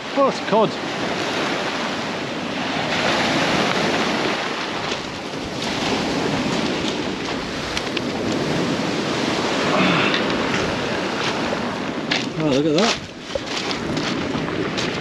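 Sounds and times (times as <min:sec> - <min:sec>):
surf washing over shingle beach: 0:00.0 - 0:15.0
wind buffeting microphone: 0:00.0 - 0:15.0.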